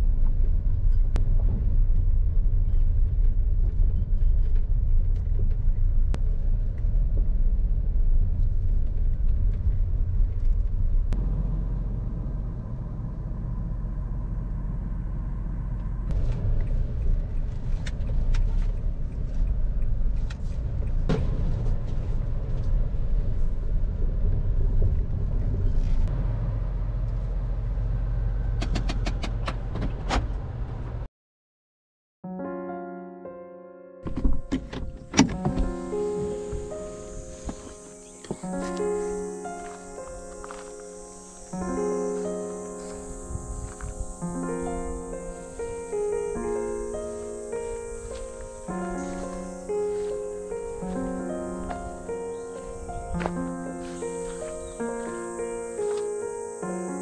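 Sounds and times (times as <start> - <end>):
car engine and tyre noise: 0.0 - 31.1, 34.1 - 57.0.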